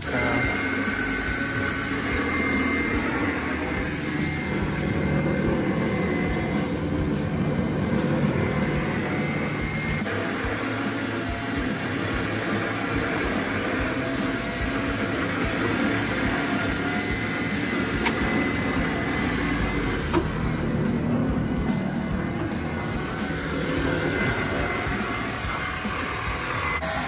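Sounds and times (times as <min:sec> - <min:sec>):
electric winch whirring: 0:00.0 - 0:27.0.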